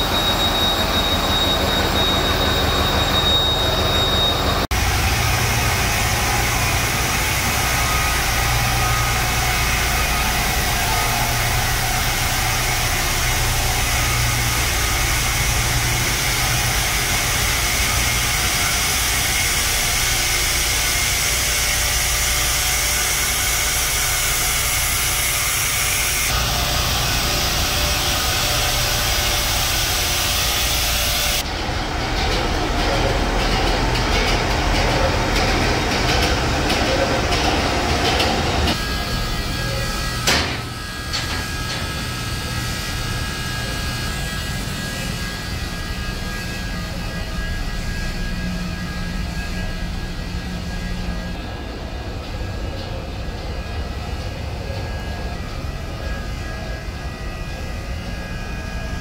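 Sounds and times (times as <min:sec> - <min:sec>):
engine room machinery din: 0:00.0 - 0:59.0.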